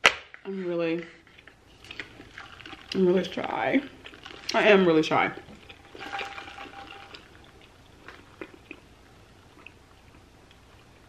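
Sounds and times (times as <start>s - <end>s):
soft chewing: 1.0s - 11.0s.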